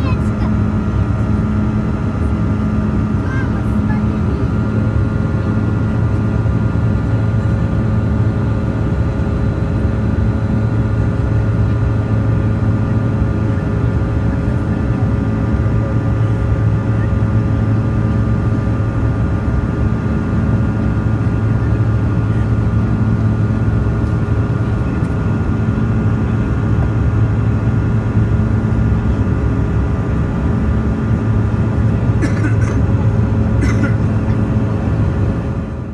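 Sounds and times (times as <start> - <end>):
jet engines droning: 0.0 - 35.9.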